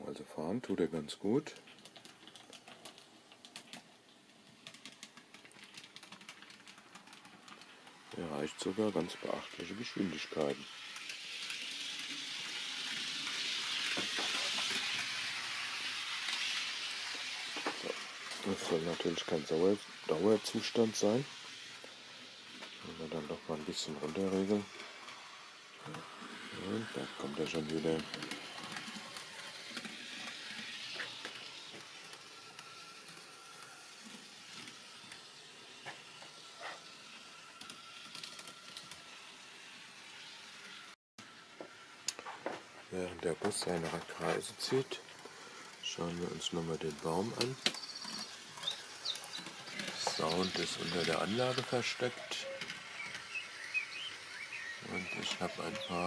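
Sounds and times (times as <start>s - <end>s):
small electric motor whirring: 8.6s - 42.6s, 43.7s - 56.0s.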